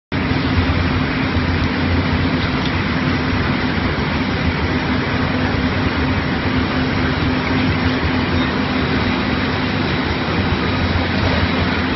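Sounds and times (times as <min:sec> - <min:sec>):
heavy diesel machinery running: 0:00.1 - 0:11.9.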